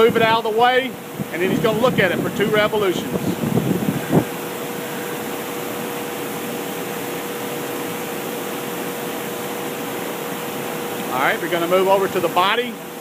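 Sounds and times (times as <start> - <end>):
mid-pitched machine hum: 0.0 - 13.0.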